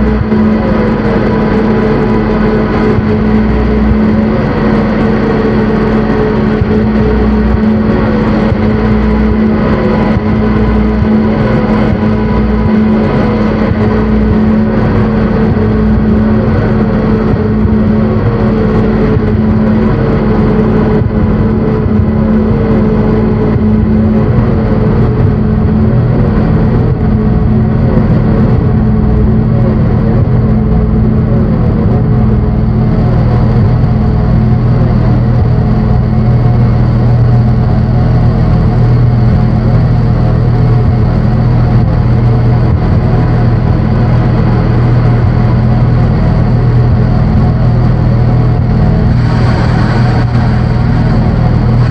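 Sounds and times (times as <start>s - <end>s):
electronic drone music: 0.0s - 51.9s.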